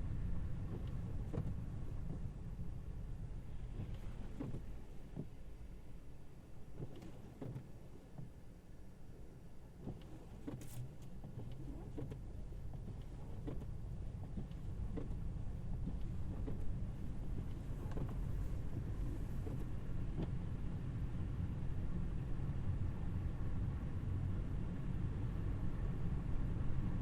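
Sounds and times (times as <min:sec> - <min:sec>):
tyres rumbling on snowy road: 0:00.0 - 0:08.4, 0:09.6 - 0:27.0.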